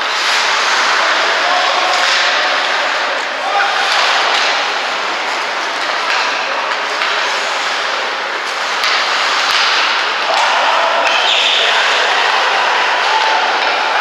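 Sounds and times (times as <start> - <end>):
skates scraping ice: 0.0 - 14.0.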